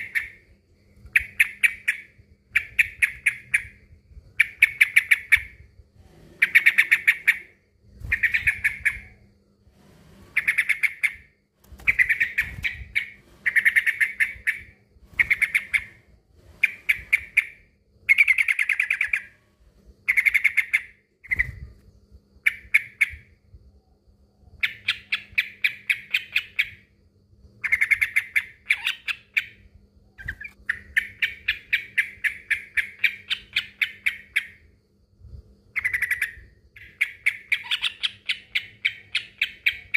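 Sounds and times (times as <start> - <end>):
bird chattering song: 0.0 - 5.6, 6.4 - 9.2, 10.3 - 19.4, 20.0 - 21.7, 22.4 - 23.4, 24.6 - 26.9, 27.6 - 34.7, 35.8 - 39.9
faint steady hum: 0.0 - 39.9.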